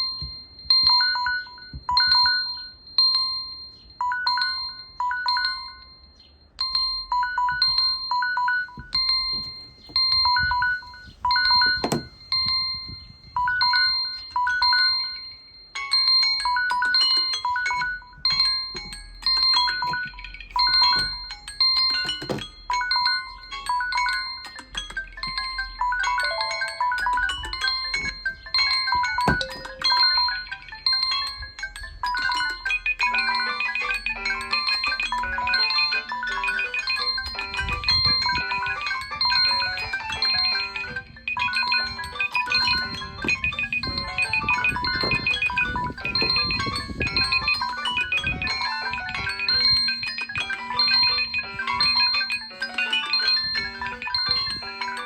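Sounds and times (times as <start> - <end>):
melodic alarm tone: 0.0 - 55.0.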